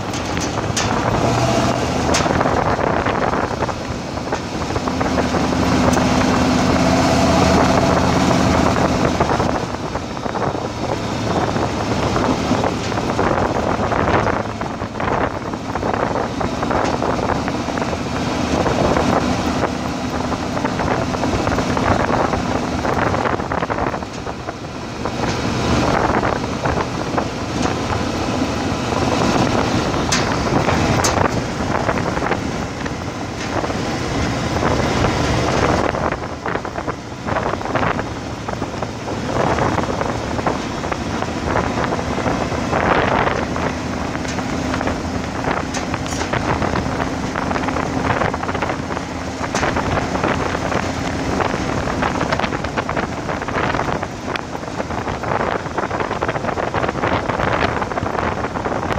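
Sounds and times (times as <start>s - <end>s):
rumbling and buffeting: 0.0s - 58.9s
tyres on gravel: 0.0s - 58.9s
vehicle engine hum: 0.0s - 58.9s.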